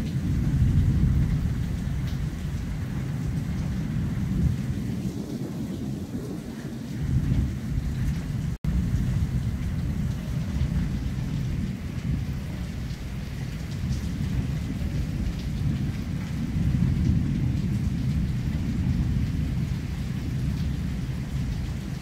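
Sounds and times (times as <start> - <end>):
heavy rain hissing: 0.0 - 22.0
thunder rumbling: 0.0 - 22.0.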